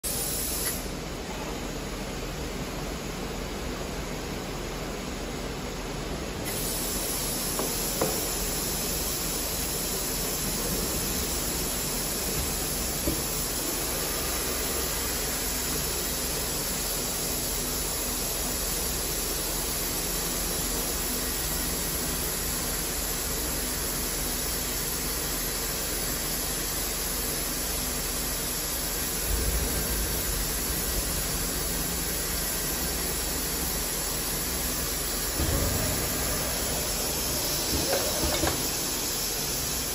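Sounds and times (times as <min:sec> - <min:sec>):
factory machinery hissing: 0:00.0 - 0:39.9.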